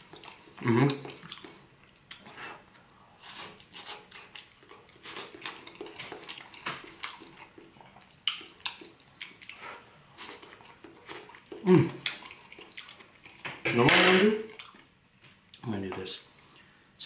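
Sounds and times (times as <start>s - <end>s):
person chewing food: 0.0s - 16.8s.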